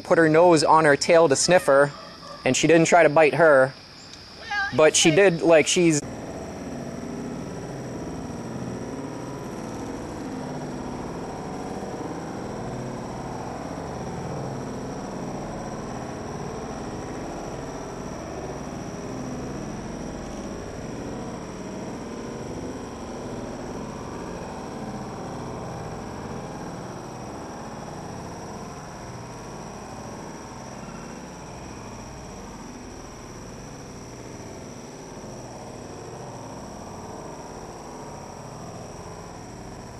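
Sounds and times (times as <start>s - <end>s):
thin high whine: 0.0s - 39.9s.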